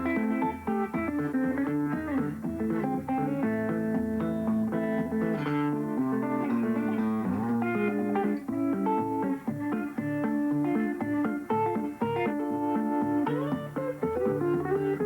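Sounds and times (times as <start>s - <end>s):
fingerpicked guitar: 0.0s - 15.0s.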